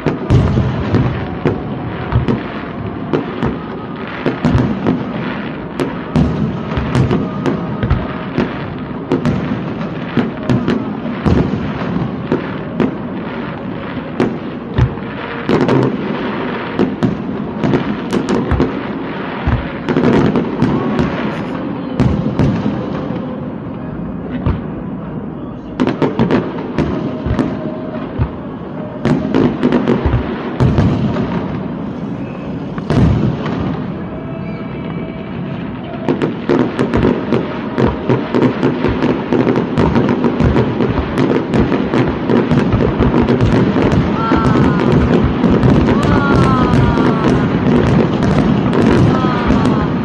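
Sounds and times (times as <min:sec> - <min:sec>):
fireworks bangs: 0:00.0 - 0:50.0
fireworks crackling: 0:00.0 - 0:50.0.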